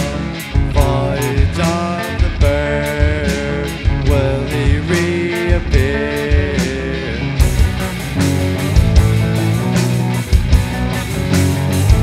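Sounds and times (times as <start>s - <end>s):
bass guitar: 0.0s - 12.0s
drum kit: 0.0s - 12.0s
electric guitars: 0.0s - 12.0s.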